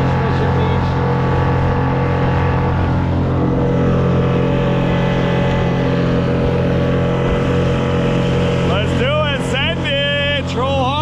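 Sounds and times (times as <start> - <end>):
outboard motor running: 0.0 - 11.0
water rushing past hull: 0.0 - 11.0.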